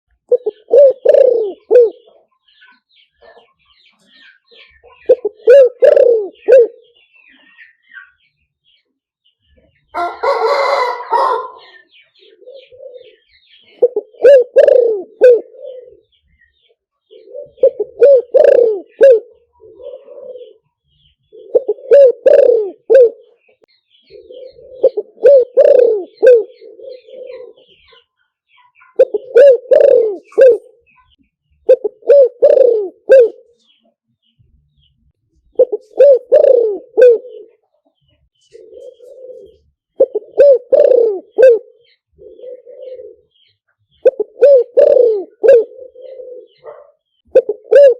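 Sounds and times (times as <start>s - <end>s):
dove cooing: 0.3s - 2.3s, 4.2s - 7.6s, 10.0s - 28.1s, 28.9s - 31.0s, 31.6s - 33.7s, 35.5s - 47.9s.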